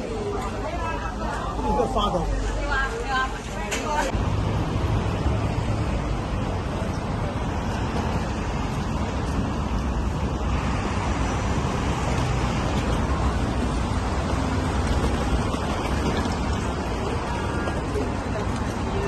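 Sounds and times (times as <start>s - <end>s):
street noise rumble and hiss: 0.0s - 19.0s.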